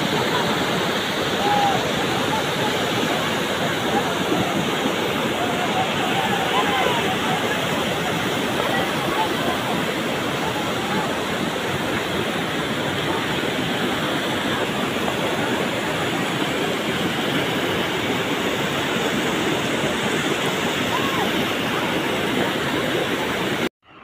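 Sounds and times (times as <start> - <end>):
flood water rushing: 0.0 - 23.7.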